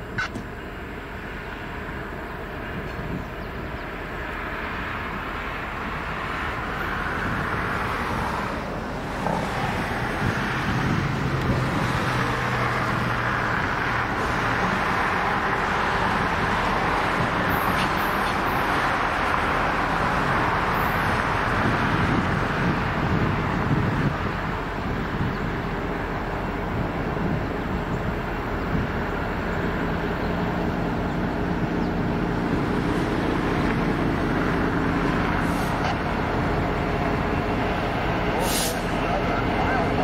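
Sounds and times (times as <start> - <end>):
diesel locomotive engine hum: 0.0 - 40.0
road traffic hiss: 0.0 - 40.0.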